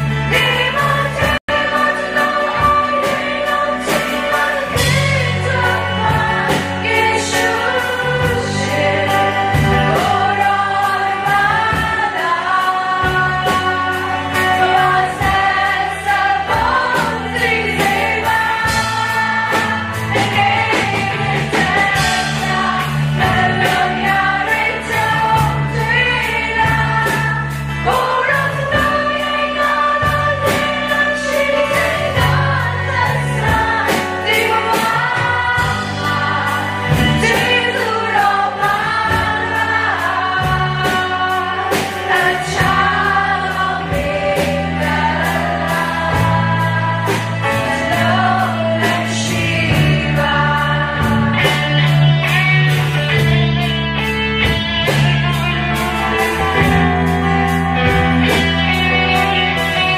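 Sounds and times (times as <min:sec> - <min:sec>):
women singing into microphones: 0:00.0 - 0:52.6, 0:54.8 - 0:59.9
band playing: 0:00.0 - 0:59.9
congregation singing along: 0:00.0 - 0:59.9.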